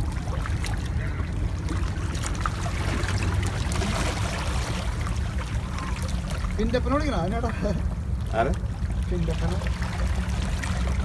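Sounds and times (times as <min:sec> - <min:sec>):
water lapping and splashing: 0:00.0 - 0:11.0.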